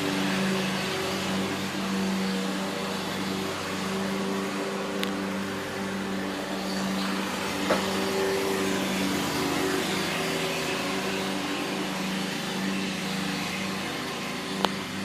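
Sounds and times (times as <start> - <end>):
milling machine motor whine: 0.0 - 15.0.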